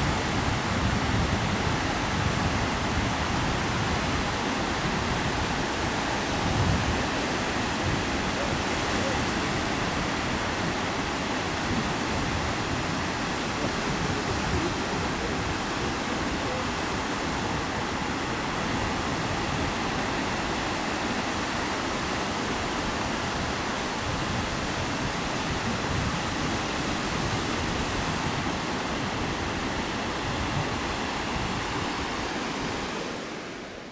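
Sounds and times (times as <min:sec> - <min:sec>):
ocean surf breaking on beach: 0:00.0 - 0:33.9.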